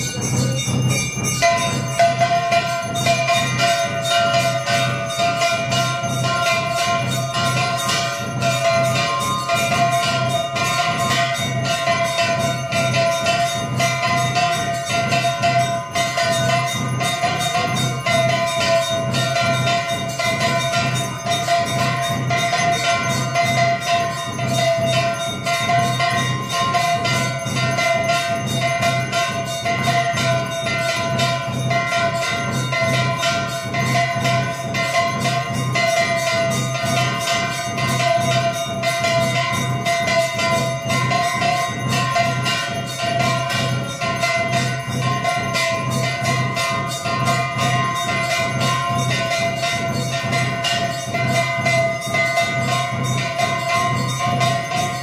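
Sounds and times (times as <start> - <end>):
gong beaten rapidly with stick: 0.0 - 55.0.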